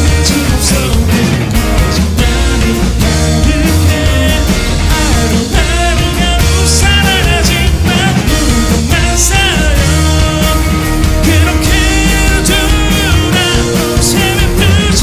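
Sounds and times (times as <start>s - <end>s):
acoustic guitar: 0.0s - 15.0s
bass guitar: 0.0s - 15.0s
drum kit: 0.0s - 15.0s
electric guitar: 0.0s - 15.0s
man singing: 0.0s - 15.0s.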